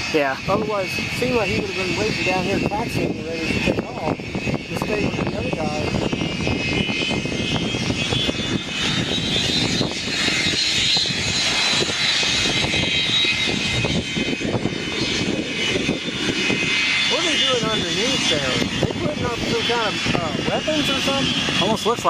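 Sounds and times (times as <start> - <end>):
aircraft engine whine: 0.0 - 22.0
wind rumbling on microphone: 0.0 - 22.0.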